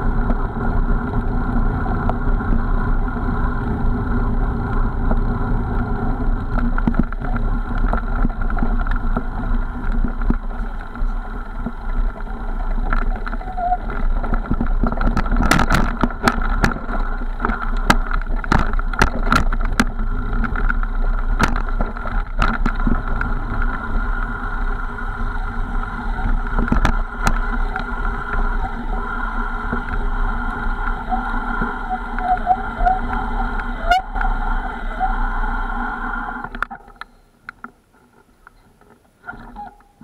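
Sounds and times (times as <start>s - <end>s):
mountain bike rumble on dirt: 0.0s - 40.0s.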